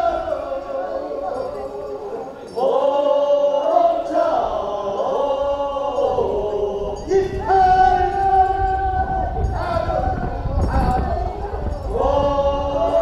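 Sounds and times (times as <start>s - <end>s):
men singing in chorus: 0.0s - 13.0s.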